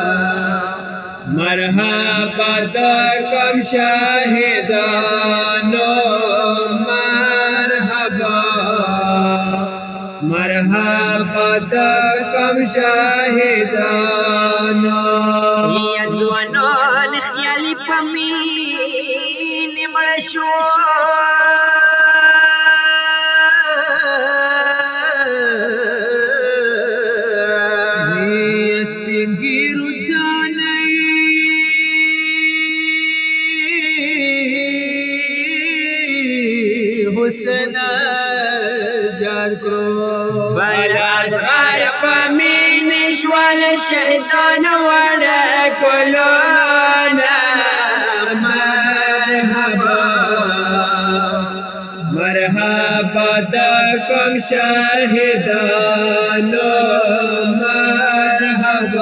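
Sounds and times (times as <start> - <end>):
man singing a mourning chant: 0.0 - 59.0.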